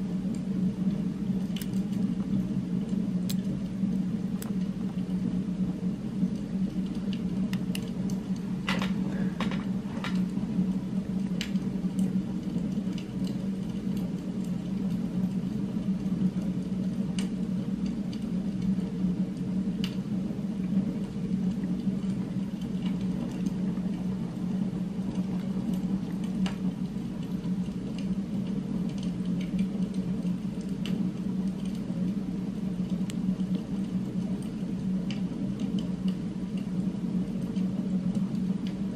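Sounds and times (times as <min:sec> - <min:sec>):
low droning hum: 0:00.0 - 0:38.9.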